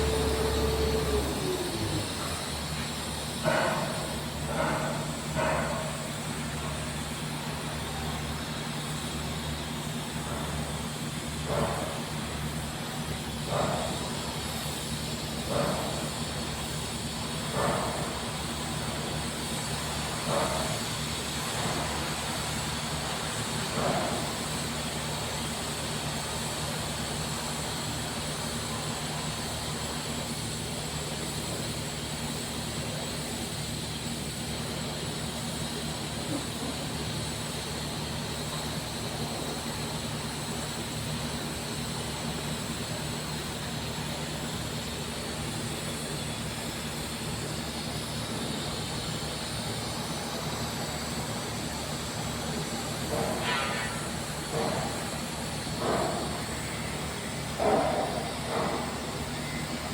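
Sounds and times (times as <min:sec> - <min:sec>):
welding arc buzzing and hissing: 0:08.4 - 0:59.9.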